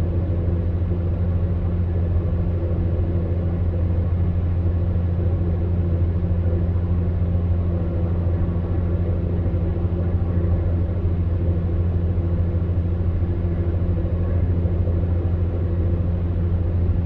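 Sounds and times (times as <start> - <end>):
fan air rushing: 0.0 - 17.0
fan heater humming: 0.0 - 17.0.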